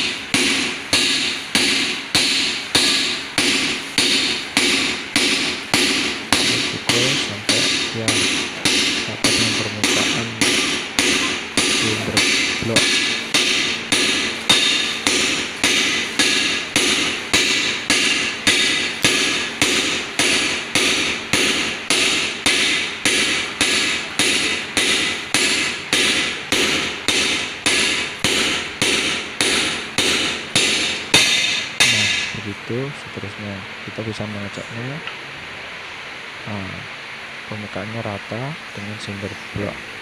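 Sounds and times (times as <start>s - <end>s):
hammer blows on metal: 0.0s - 32.9s.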